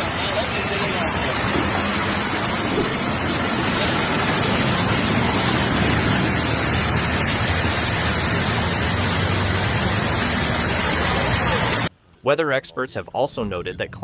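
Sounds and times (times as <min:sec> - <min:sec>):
heavy rain: 0:00.0 - 0:11.9
rushing floodwater: 0:00.0 - 0:11.9.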